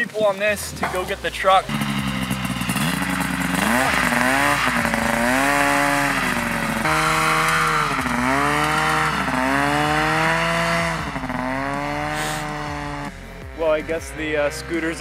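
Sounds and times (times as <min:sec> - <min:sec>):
engine revving under load: 0:00.8 - 0:15.0.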